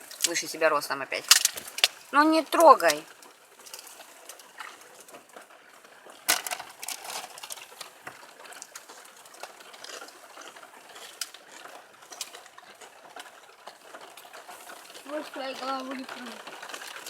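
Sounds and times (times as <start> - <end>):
bonfire crackling: 0.0 - 17.0.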